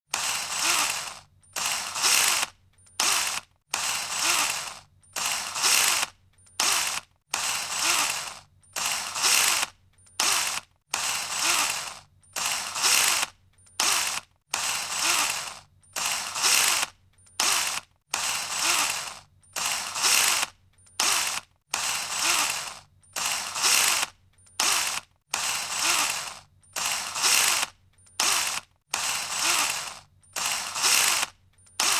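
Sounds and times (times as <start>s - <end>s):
cordless drill whirring in bursts: 0.1s - 31.9s.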